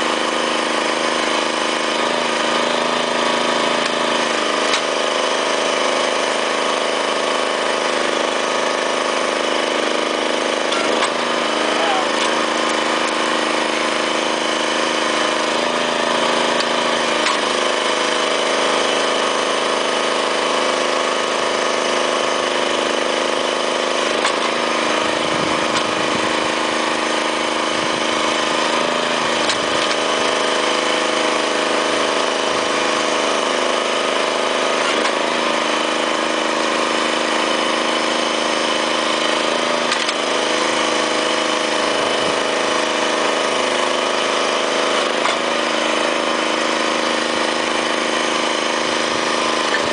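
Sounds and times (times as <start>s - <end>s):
small engine running steadily: 0.0s - 49.9s.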